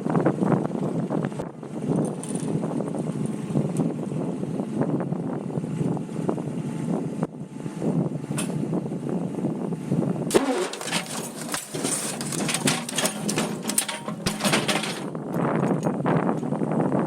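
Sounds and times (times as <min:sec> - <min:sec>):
wind buffeting microphone: 0:00.0 - 0:10.4, 0:11.1 - 0:17.0.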